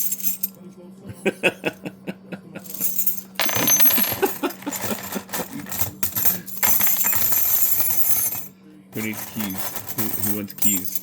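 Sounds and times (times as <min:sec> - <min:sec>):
metal keys jangling: 0:00.0 - 0:00.5, 0:02.7 - 0:11.0.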